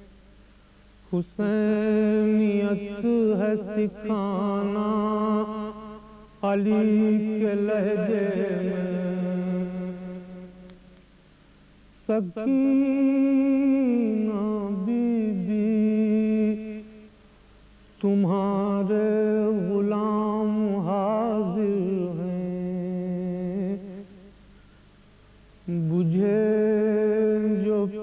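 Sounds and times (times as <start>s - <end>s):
man chanting: 1.1s - 11.0s, 12.0s - 17.1s, 18.0s - 24.3s, 25.6s - 28.0s.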